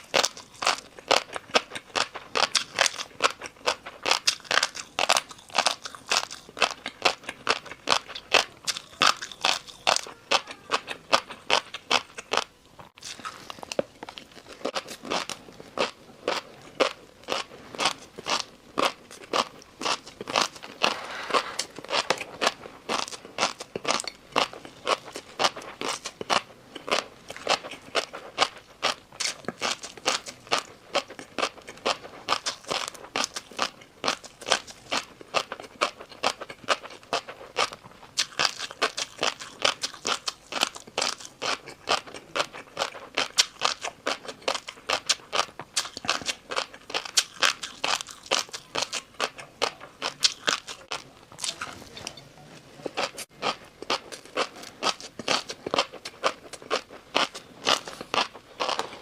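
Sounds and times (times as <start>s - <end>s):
crunchy noodles being chewed: 0.0s - 52.2s, 52.8s - 59.0s.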